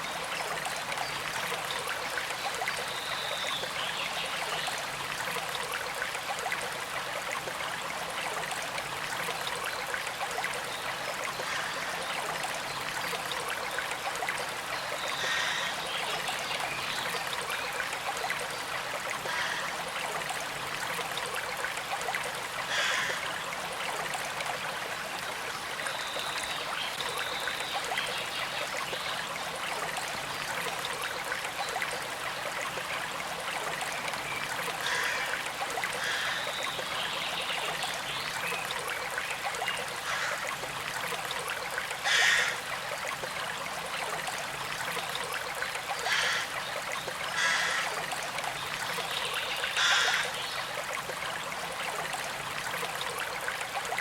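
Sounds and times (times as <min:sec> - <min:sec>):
creek flowing and trickling: 0:00.0 - 0:54.0.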